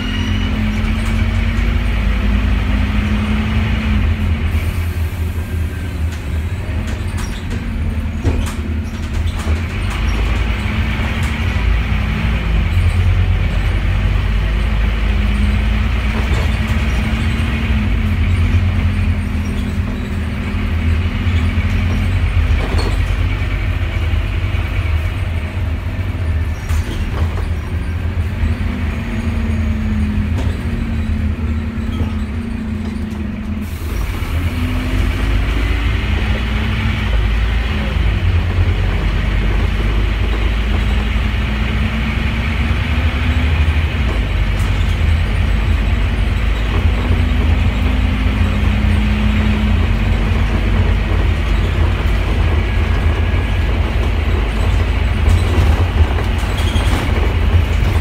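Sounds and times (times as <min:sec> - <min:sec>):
bus body rattles: 0:00.0 - 0:58.0
bus diesel engine rumble: 0:00.0 - 0:58.0.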